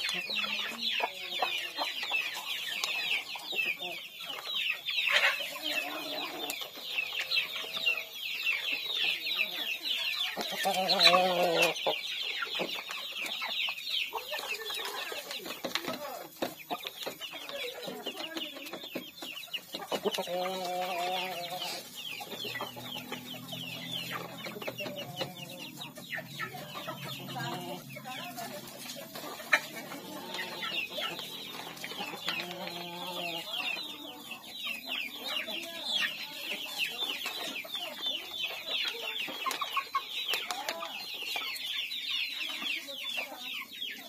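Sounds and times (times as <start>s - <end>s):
chickens clucking: 0.0s - 44.0s
chicks peeping: 0.0s - 44.0s.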